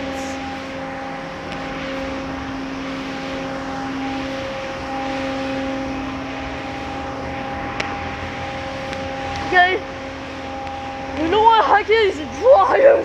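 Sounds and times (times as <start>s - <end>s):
spraying water hiss: 0.0s - 12.0s
motor humming: 0.0s - 13.0s.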